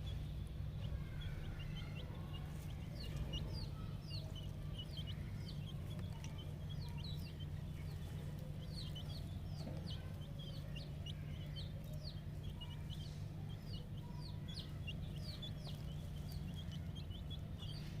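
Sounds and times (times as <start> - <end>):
chicks peeping: 0.0 - 18.0
steady low hum: 0.0 - 18.0.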